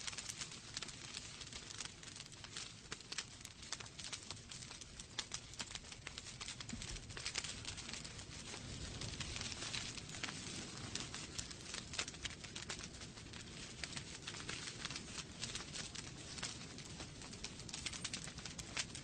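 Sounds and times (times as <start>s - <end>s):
logs crackling and popping: 0.0s - 19.0s
low rumble of flame: 0.0s - 19.0s.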